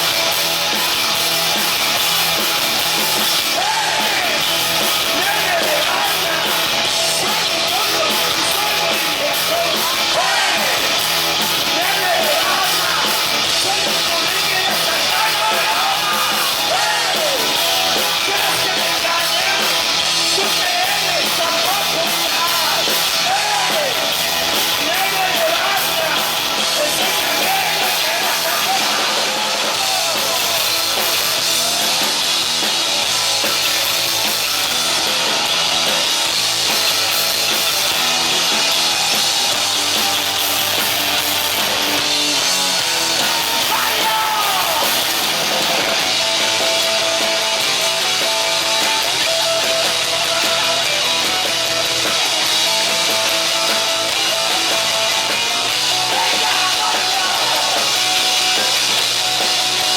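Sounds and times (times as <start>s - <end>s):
rock band playing live: 0.0s - 59.9s
shouted singing: 3.2s - 32.3s, 37.1s - 59.9s.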